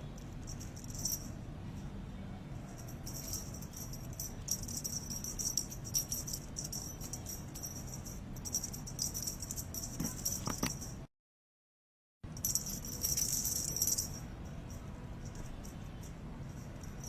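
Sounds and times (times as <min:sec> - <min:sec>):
low steady hum: 0:00.0 - 0:11.1, 0:12.2 - 0:17.0
high jingling rattle: 0:00.2 - 0:01.4, 0:02.7 - 0:11.1, 0:12.4 - 0:17.0.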